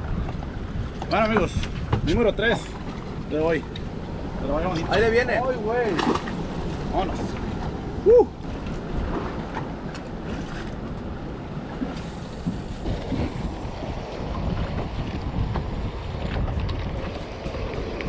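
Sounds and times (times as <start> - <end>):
water sloshing against hull: 0.0 - 18.0
wind buffeting microphone: 0.0 - 18.0.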